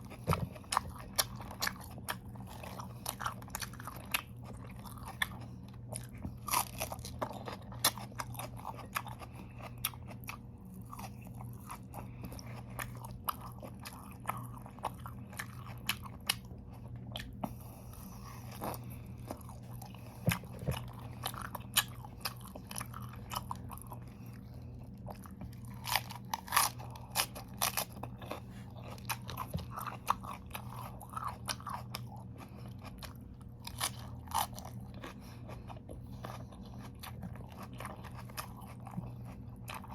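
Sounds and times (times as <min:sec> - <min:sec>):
low electrical hum: 0:00.0 - 0:39.9
person chewing crunchy vegetables: 0:00.0 - 0:39.9.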